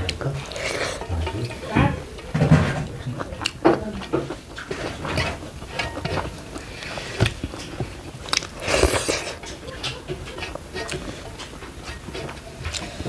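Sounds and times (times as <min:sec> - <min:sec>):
chewing and mouth sounds: 0:00.0 - 0:01.6, 0:02.2 - 0:13.0.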